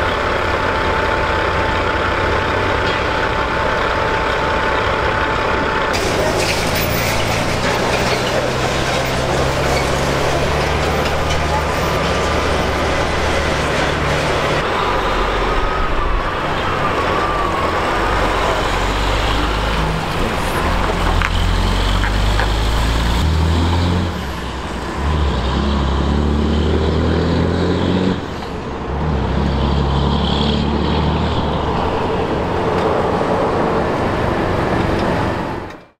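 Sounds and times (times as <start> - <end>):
diesel truck engine shifting gears: 0.0 - 35.9.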